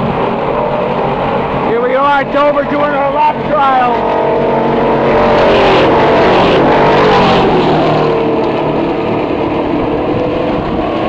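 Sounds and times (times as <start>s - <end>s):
race car engine at speed: 0.0s - 11.0s.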